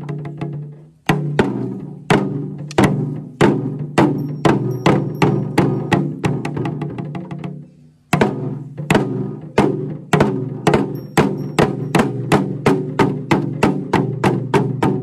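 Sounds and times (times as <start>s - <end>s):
folk drums beaten in rhythm: 0.0s - 15.0s.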